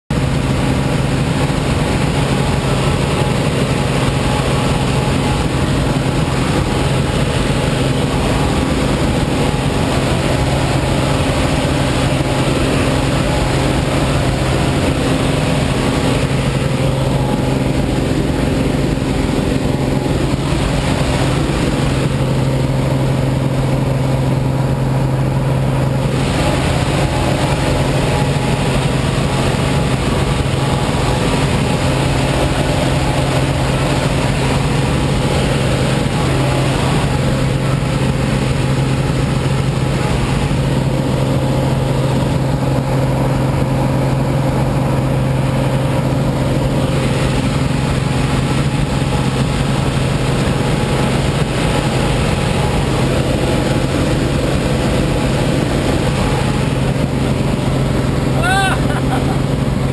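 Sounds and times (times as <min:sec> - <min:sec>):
light aircraft engine droning: 0:00.1 - 0:59.9.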